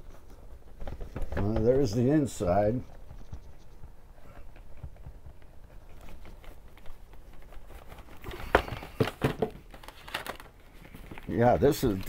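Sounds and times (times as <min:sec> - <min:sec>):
taps and rustles of handling: 0:00.0 - 0:12.0.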